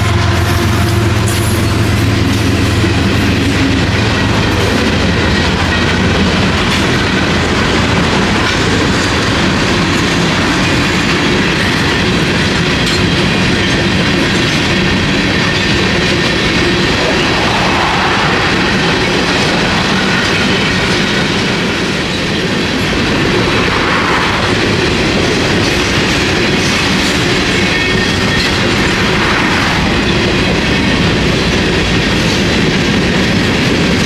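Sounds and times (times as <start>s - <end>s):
freight train wheels clattering: 0.0s - 34.0s.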